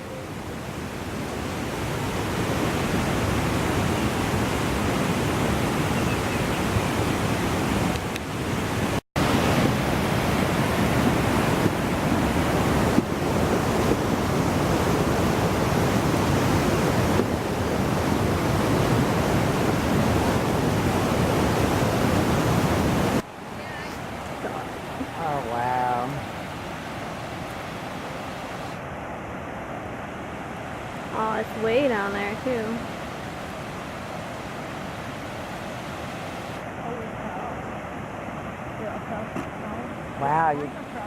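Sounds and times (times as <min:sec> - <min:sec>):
floodwater rushing: 0:00.0 - 0:41.0.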